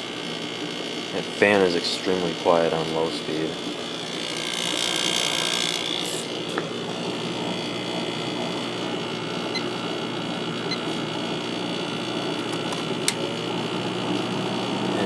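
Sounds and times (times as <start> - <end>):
window air conditioner running: 0.0 - 15.0.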